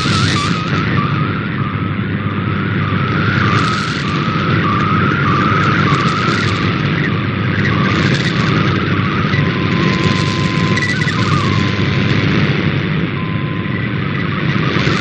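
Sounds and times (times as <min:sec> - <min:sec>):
warbling digital tones: 0:00.0 - 0:12.1
radio static hiss: 0:00.0 - 0:15.0.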